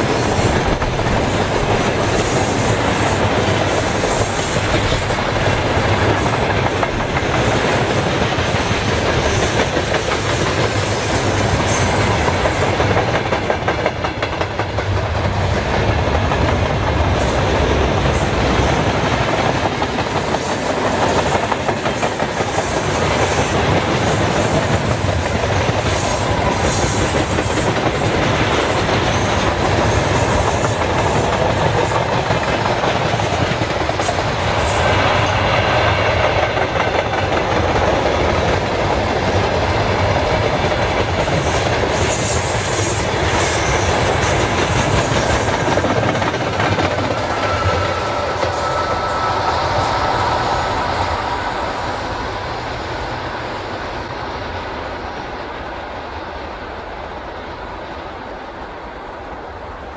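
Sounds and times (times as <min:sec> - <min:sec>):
train wheels clattering over rail joints: 0:00.0 - 0:49.2.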